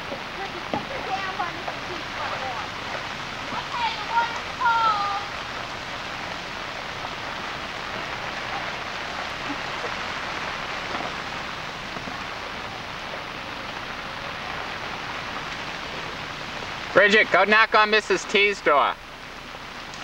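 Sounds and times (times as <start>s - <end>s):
rain falling on water: 0.0s - 20.0s.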